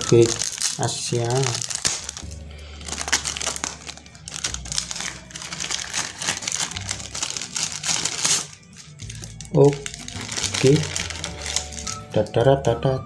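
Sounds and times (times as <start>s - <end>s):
plastic mailer bag crinkling: 0.0s - 12.4s.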